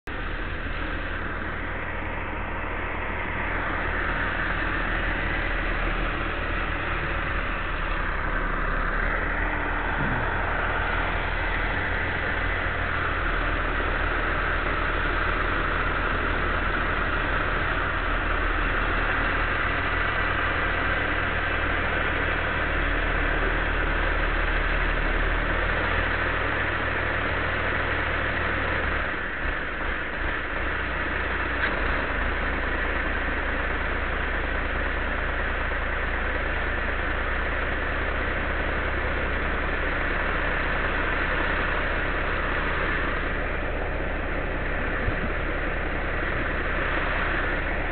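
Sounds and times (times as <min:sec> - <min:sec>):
engine running steadily: 0:00.0 - 0:47.9.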